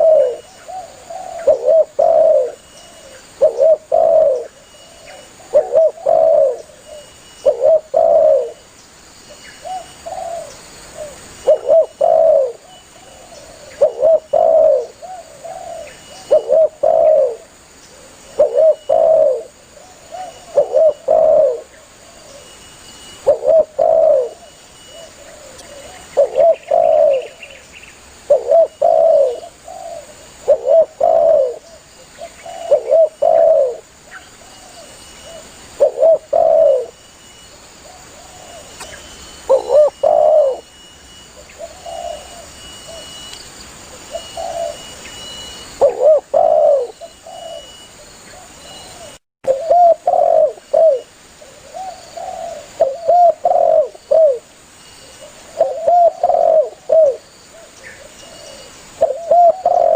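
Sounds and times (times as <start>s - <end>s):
dove cooing: 0.0s - 8.6s, 9.6s - 27.6s, 28.2s - 37.0s, 37.8s - 43.2s, 43.9s - 54.5s, 55.1s - 59.9s
faint dove coos: 0.0s - 8.6s, 9.6s - 27.6s, 28.2s - 37.0s, 37.8s - 40.7s, 41.3s - 43.3s, 43.9s - 59.9s.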